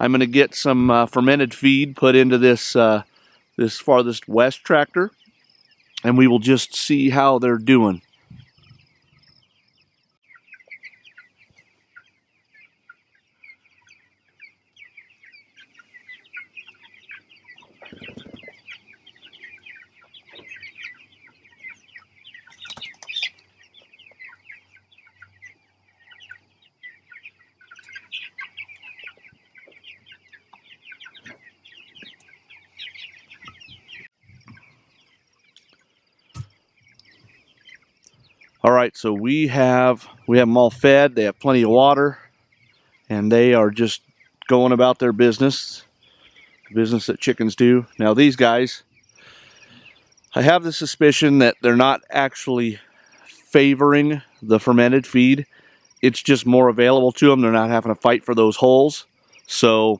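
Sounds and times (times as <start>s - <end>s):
chickens chirping and clucking: 0.0s - 59.9s.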